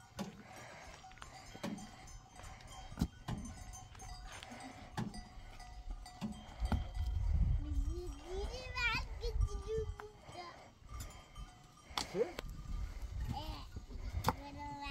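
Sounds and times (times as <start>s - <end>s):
livestock bells clanking: 0.0s - 14.9s.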